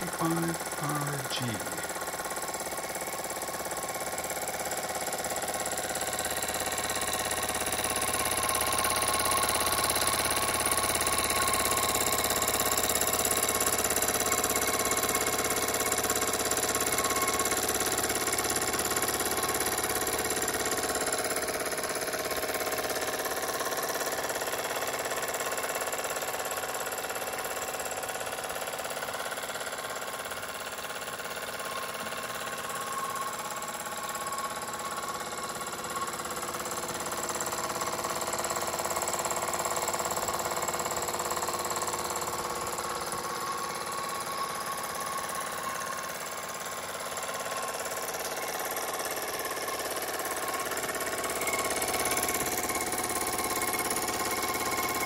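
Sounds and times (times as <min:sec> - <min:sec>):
generator whirr: 0:00.0 - 0:55.0
model steam engine running: 0:00.0 - 0:55.0.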